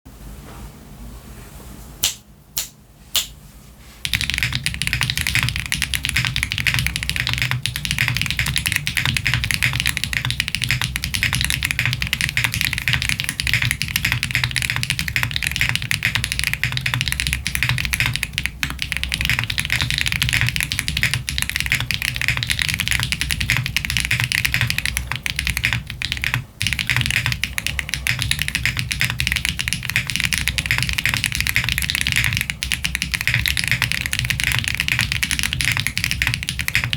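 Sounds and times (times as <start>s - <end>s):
fast mechanical keyboard typing: 4.0s - 36.9s.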